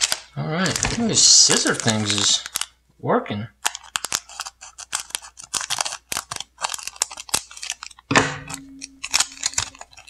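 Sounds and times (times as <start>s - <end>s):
foil wrapper rustling: 0.0s - 2.7s, 3.6s - 10.0s
scissors snipping foil: 0.0s - 2.7s, 3.6s - 10.0s.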